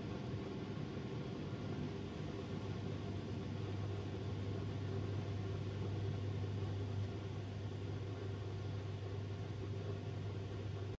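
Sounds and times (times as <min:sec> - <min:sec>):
heater low hum: 0:00.0 - 0:10.9.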